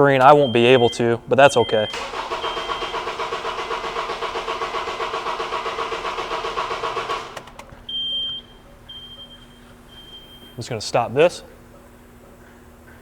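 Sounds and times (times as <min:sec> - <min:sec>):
car engine cranking without firing: 0:00.0 - 0:12.8.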